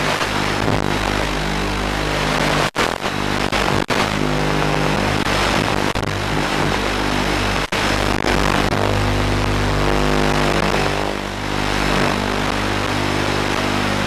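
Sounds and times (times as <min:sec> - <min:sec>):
distorted backing music: 0:00.0 - 0:14.0.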